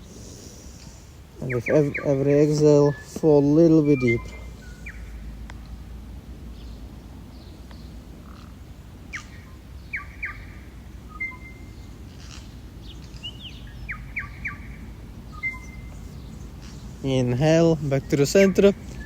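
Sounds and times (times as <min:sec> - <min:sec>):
birds chirping: 0:00.0 - 0:19.0
low background rumble: 0:00.0 - 0:19.0.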